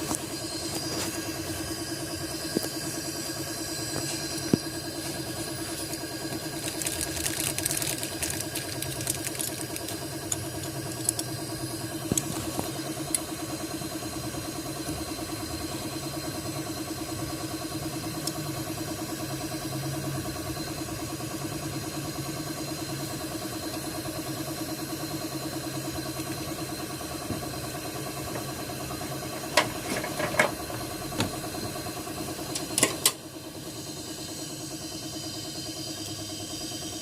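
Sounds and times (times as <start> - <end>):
pulsing mechanical hum: 0.0 - 37.0.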